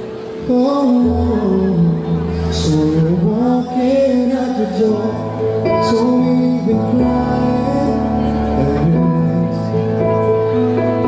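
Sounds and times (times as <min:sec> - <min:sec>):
man singing into microphone: 0:00.1 - 0:10.6.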